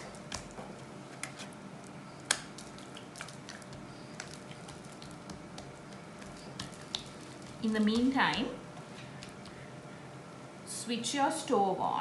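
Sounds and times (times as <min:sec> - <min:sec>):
dough squishing: 0:00.0 - 0:09.8.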